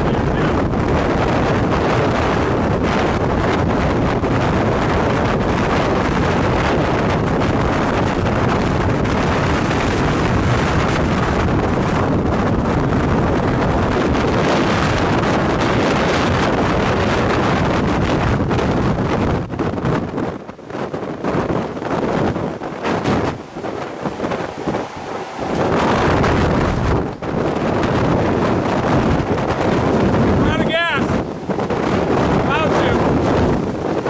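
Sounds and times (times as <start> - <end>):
strong wind on microphone: 0.0 - 34.0.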